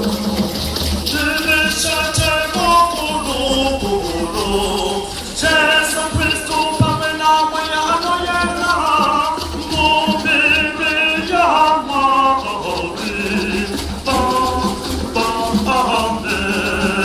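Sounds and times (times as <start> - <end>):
crowd singing a hymn: 0.0 - 17.0.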